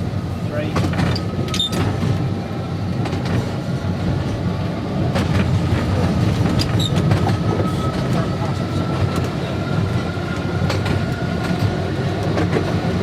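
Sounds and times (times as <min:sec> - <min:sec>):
tram motors and wheels rumbling: 0:00.0 - 0:13.0.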